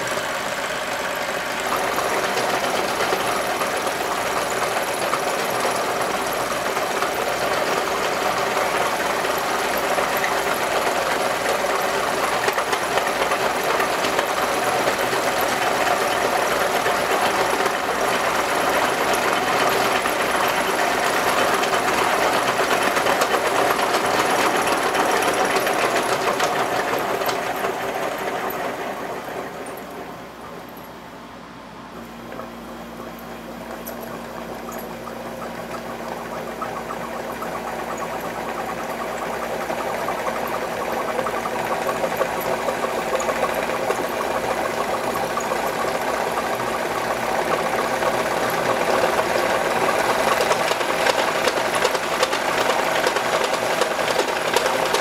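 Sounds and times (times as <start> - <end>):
coil-winding machine whirring: 0.0 - 55.0.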